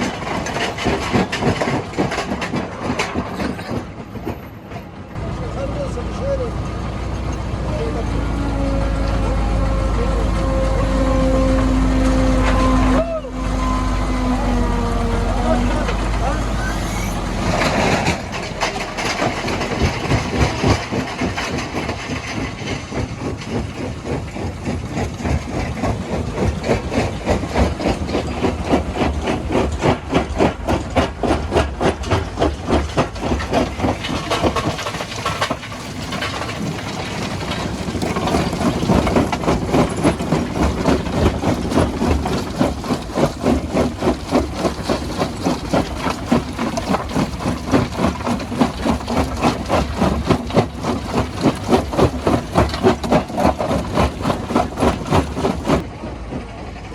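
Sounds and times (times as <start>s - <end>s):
jaw crusher crushing rocks: 0.0s - 4.0s, 6.6s - 55.9s.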